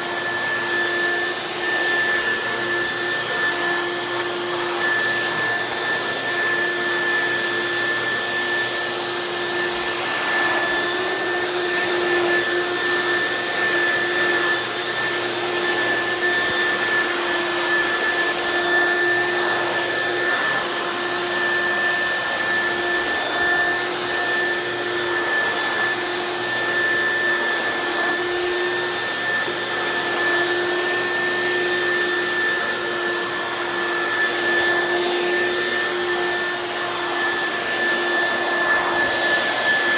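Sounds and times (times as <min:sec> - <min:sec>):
stick vacuum motor whining: 0:00.0 - 0:39.9.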